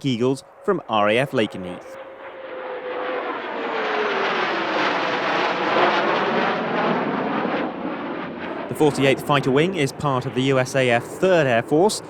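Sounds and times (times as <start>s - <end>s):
fighter jet roaring past: 0.0s - 12.0s
jet whine dropping in pitch: 0.0s - 12.0s.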